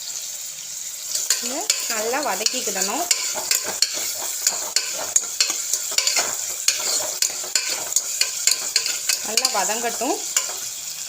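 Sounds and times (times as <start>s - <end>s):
onions sizzling in hot oil: 0.0s - 11.0s
spoon scraping against pot: 1.1s - 10.8s.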